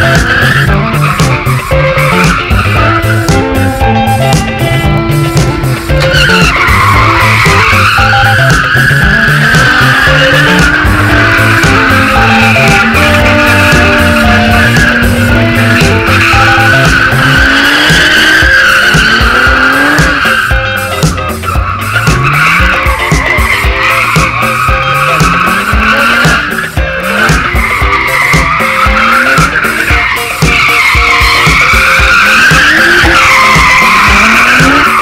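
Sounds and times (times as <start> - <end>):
background music with steady beat: 0.0 - 35.0
car engine revving: 0.0 - 35.0
car tyres squealing: 0.0 - 35.0.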